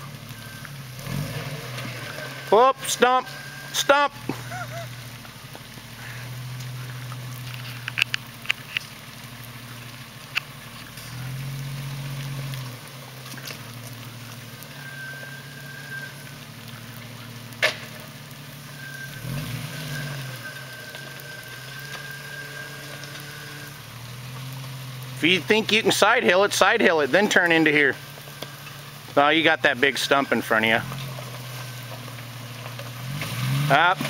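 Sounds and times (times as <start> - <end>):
car engine running at low revs: 0.0 - 34.0.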